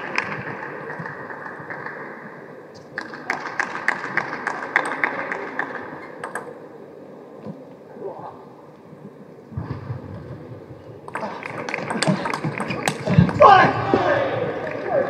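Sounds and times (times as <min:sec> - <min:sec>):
steady hall hum: 0:00.0 - 0:15.0.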